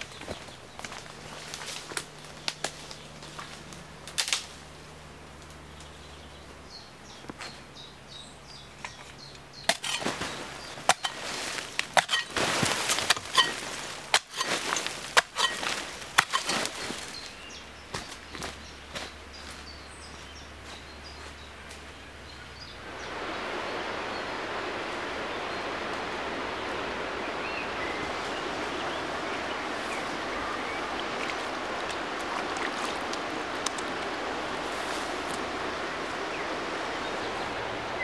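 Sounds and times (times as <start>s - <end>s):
twigs crackling underfoot: 0.0s - 6.0s, 8.8s - 22.1s, 24.4s - 37.9s.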